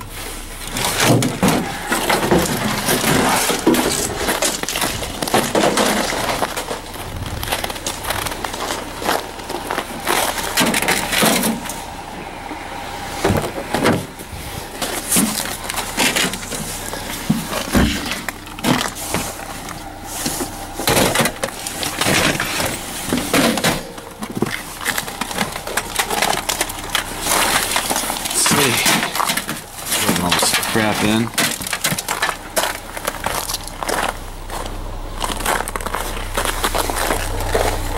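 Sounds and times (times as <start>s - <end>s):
junk rummaged in dumpster: 0.0s - 37.9s.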